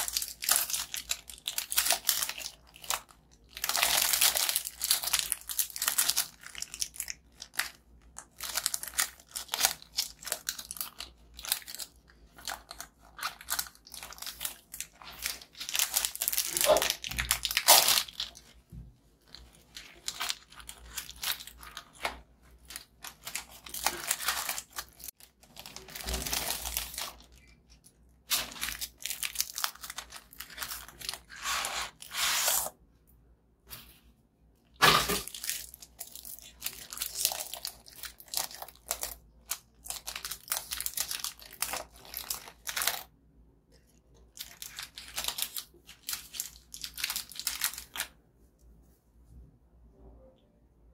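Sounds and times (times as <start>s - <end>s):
plastic wrappers crinkling: 0.0s - 18.6s, 19.2s - 32.6s, 35.1s - 43.1s, 44.2s - 48.1s.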